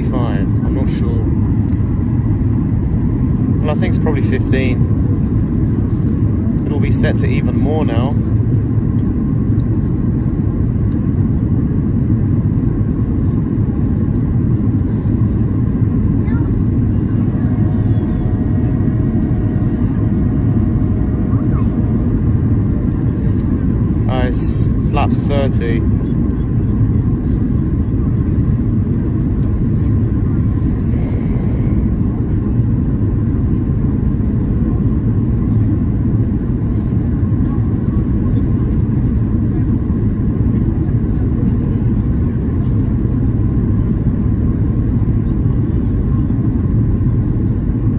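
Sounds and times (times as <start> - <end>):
airplane cabin rumble: 0.0 - 47.9.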